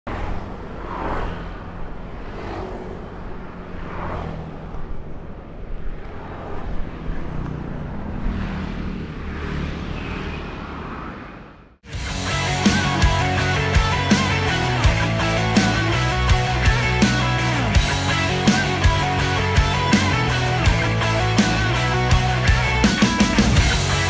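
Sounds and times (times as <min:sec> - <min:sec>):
vehicles passing by: 0:00.1 - 0:24.0.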